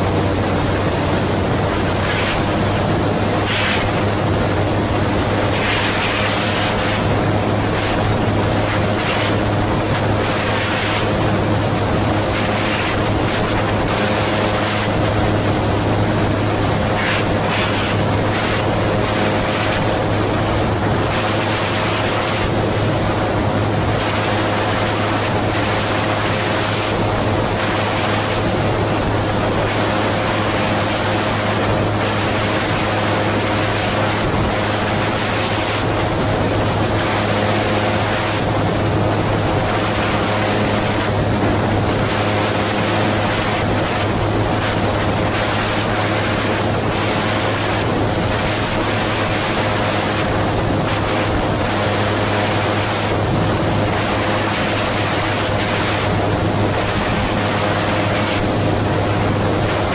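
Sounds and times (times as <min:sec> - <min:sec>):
engine and propeller drone: 0:00.0 - 0:59.9
wind on microphone: 0:00.0 - 0:59.9.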